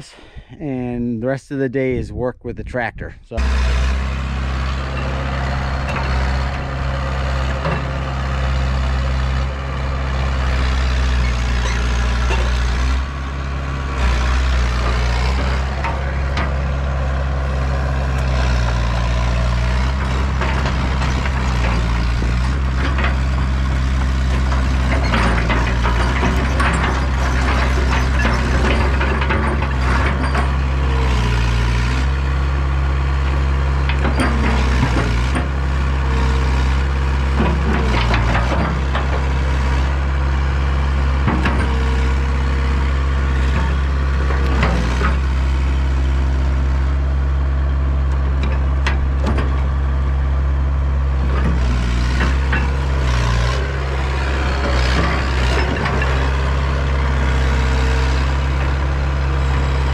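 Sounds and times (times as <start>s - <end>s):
diesel engine running: 3.3s - 59.9s
hydraulics whining: 3.3s - 59.9s
clanks knocks and rattles: 4.8s - 9.6s, 10.3s - 32.2s, 33.2s - 45.7s, 48.1s - 49.8s, 51.2s - 59.9s.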